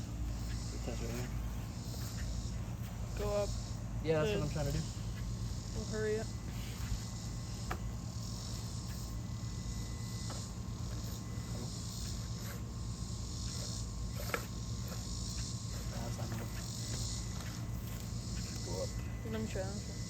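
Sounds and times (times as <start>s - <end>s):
small electric motor and gears: 0.0s - 20.0s.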